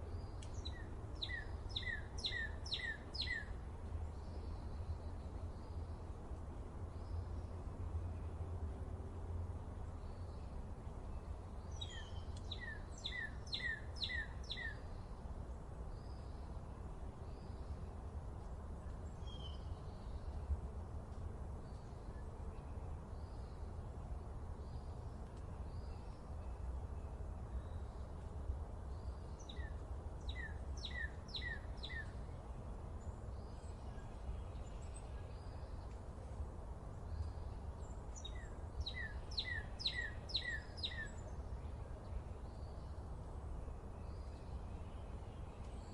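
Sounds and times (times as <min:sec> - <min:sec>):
songbird singing: 0:00.0 - 0:08.5, 0:09.8 - 0:45.9.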